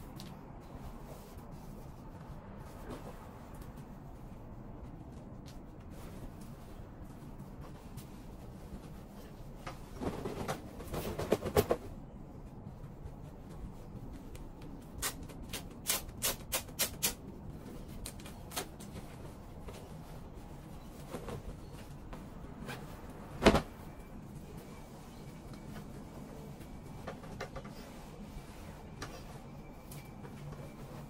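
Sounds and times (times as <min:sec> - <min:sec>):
cloth rustling: 0:00.0 - 0:15.5, 0:17.3 - 0:31.0.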